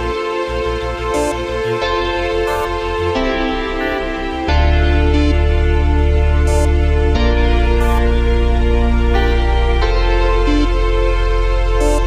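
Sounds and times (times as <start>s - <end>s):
steady bass: 0.0s - 12.0s
synthesizer chords: 0.0s - 12.0s.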